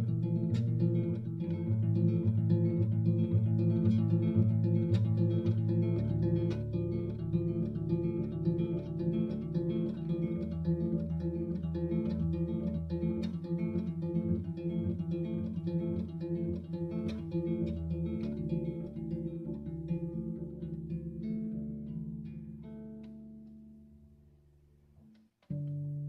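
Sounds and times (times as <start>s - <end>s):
acoustic guitar plucking: 0.0s - 24.2s, 25.0s - 26.0s.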